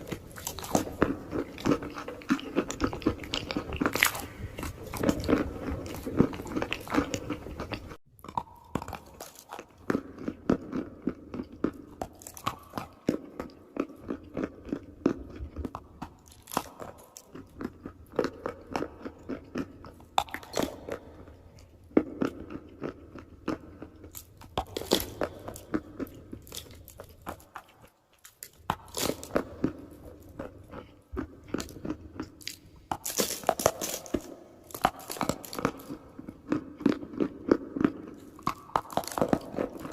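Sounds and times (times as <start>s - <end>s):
biting and chewing crunchy chalk: 0.0s - 39.9s.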